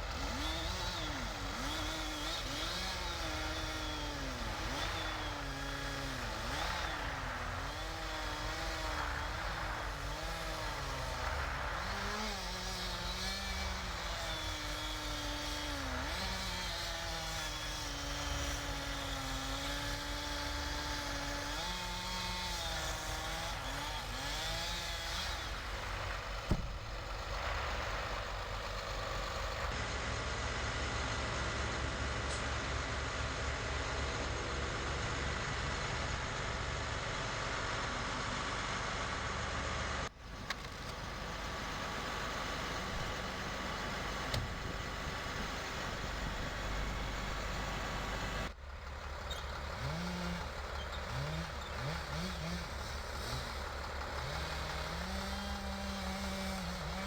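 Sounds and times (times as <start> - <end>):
heavy engine running: 0.0 - 57.0.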